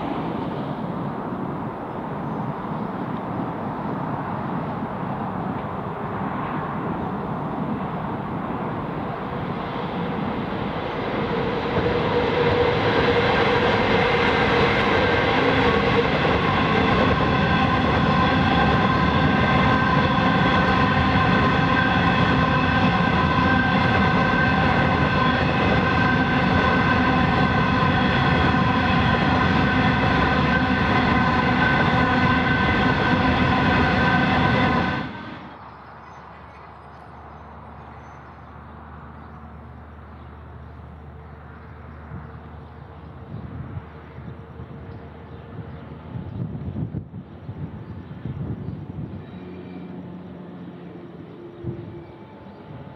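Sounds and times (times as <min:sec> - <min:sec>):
train wheels rumbling on rails: 0:00.0 - 0:52.9
locomotive whine: 0:05.6 - 0:52.9.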